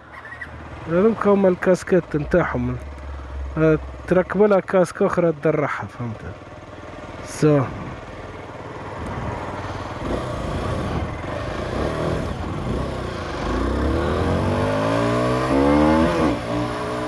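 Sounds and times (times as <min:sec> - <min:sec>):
motorcycle engine accelerating: 0:00.0 - 0:04.8, 0:06.3 - 0:17.0.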